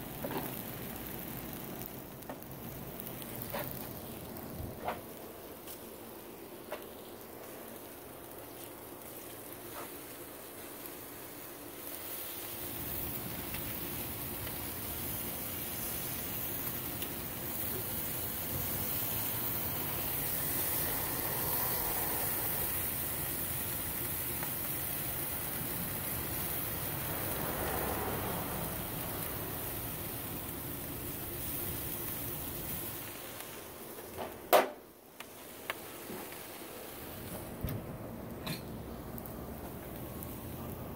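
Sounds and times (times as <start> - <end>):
chicken sizzling on a grill: 0.0 - 40.9.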